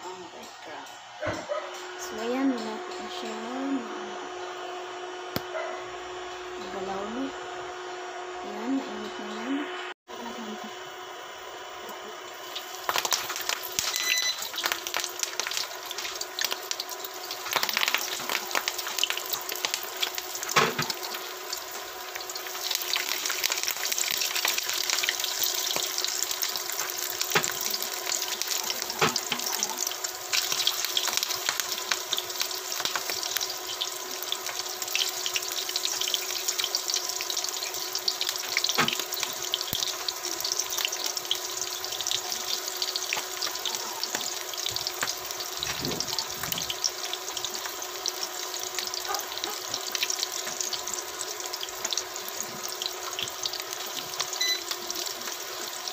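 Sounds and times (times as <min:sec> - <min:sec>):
oil sizzling in a pan: 0:10.1 - 0:55.9.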